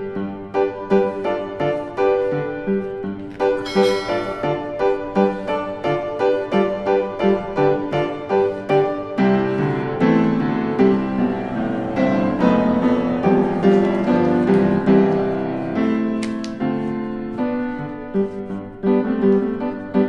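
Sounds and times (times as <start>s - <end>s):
piano playing chords and melody: 0.0s - 20.0s.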